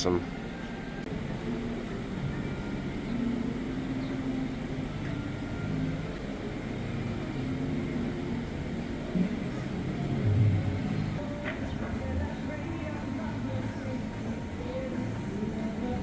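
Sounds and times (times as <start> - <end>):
car engine and road rumble: 0.0 - 16.0
faint drone: 0.0 - 16.0.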